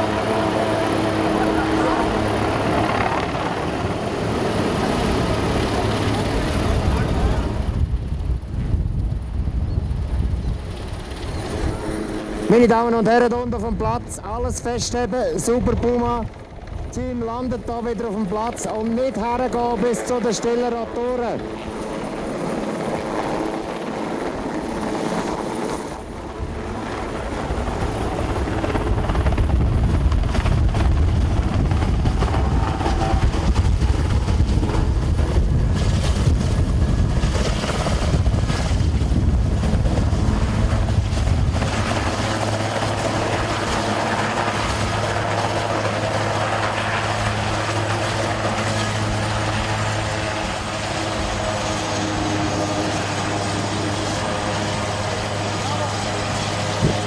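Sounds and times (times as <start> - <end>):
helicopter hum with low tone: 0.0 - 57.0
helicopter rotor beating: 0.0 - 57.0.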